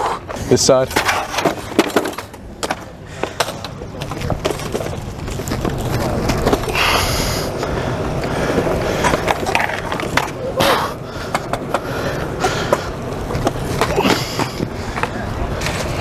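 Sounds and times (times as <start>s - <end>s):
skateboard wheels rolling on pavement: 0.0s - 16.0s.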